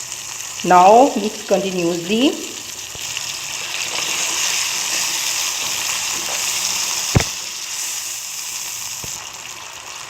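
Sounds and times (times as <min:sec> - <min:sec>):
gravy sizzling in a wok: 0:00.0 - 0:10.0.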